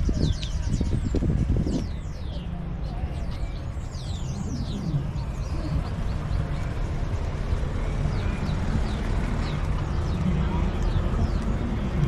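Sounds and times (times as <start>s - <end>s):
birds chirping: 0.0s - 12.0s
low street rumble: 0.0s - 12.0s.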